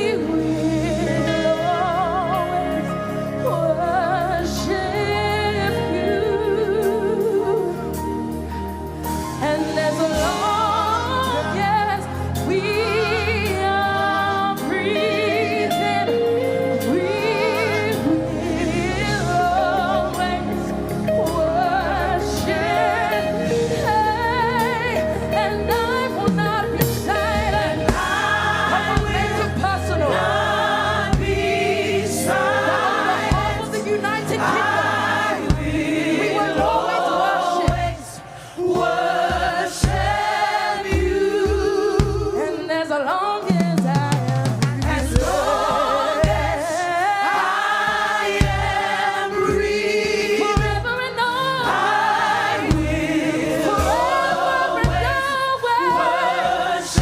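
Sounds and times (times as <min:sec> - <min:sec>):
bass and keyboard accompaniment: 0:00.0 - 0:57.0
choir singing with vibrato: 0:00.0 - 0:57.0
lead voice singing: 0:09.4 - 0:57.0.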